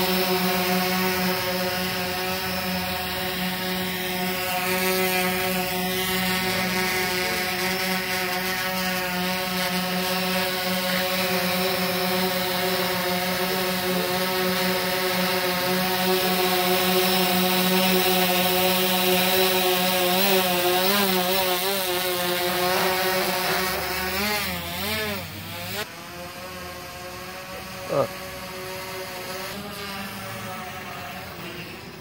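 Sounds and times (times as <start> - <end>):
drone rotors humming: 0.0 - 32.0.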